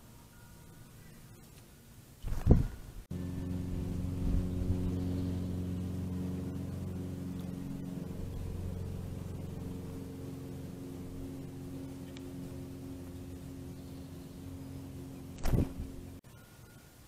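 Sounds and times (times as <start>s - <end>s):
low engine hum: 2.3s - 16.2s.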